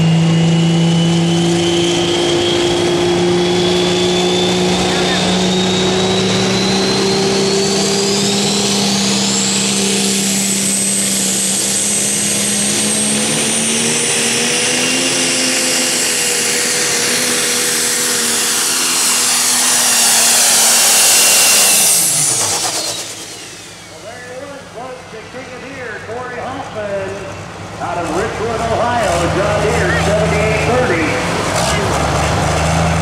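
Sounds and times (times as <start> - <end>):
diesel engine under load: 0.0 - 33.0
high turbo whine: 0.0 - 33.0.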